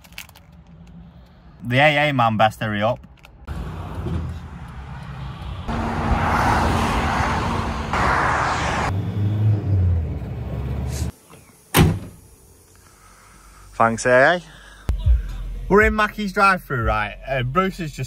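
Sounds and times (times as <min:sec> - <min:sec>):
motorway traffic: 0:00.0 - 0:15.7.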